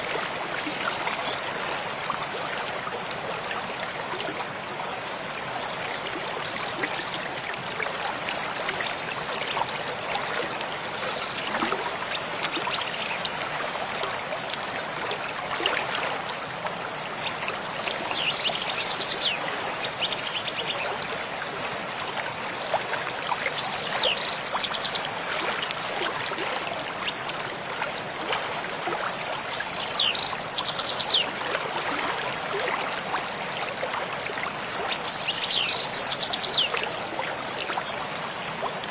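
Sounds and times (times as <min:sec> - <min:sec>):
small water splashes: 0:00.0 - 0:38.9
stream babbling over rocks: 0:00.0 - 0:38.9.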